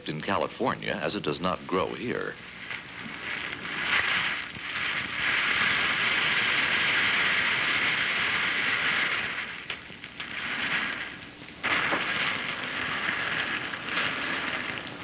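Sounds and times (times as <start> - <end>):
acorns pouring onto floor: 1.8 - 15.0.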